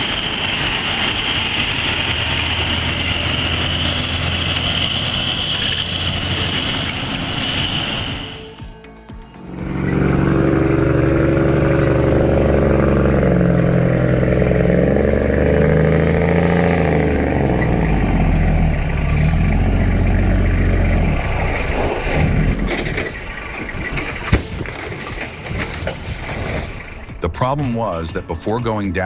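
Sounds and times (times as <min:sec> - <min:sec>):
truck diesel engine under load: 0:00.0 - 0:08.7, 0:09.4 - 0:27.4.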